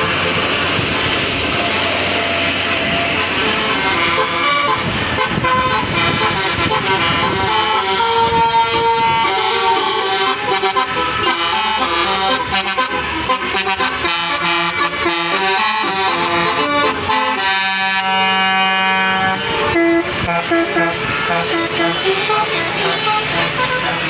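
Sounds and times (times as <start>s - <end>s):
bus musical horn melody: 0.0s - 24.0s.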